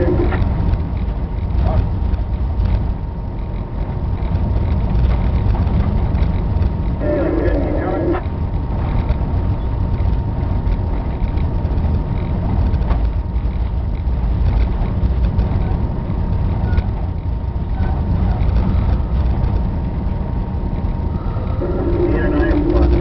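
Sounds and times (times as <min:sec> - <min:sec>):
locomotive engine rumbling: 0:00.0 - 0:23.0.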